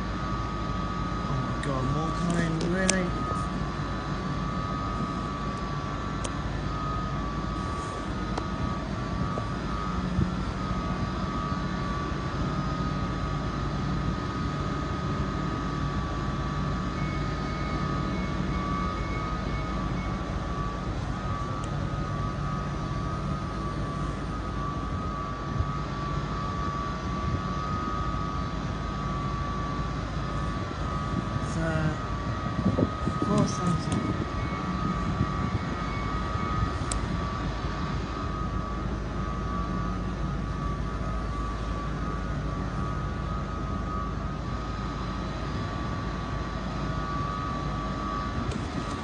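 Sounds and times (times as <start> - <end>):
high whine: 0.0 - 49.0
train engine hum: 0.0 - 49.0.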